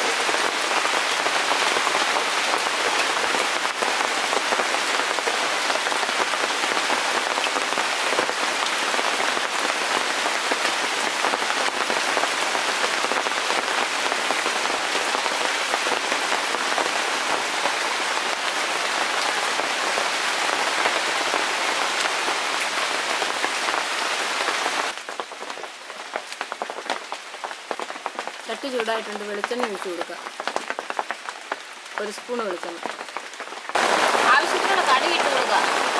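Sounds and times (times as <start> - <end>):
rain falling on leaves: 0.0 - 35.9.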